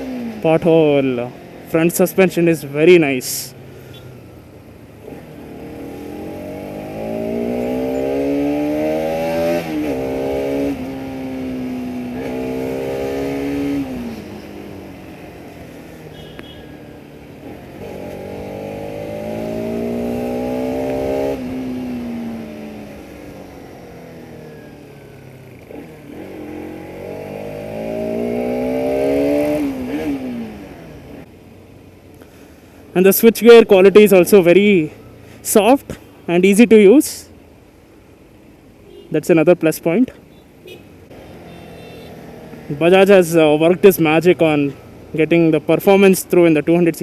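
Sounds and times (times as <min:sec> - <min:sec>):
motorcycle engine revving: 0:00.0 - 0:31.3, 0:40.6 - 0:47.0.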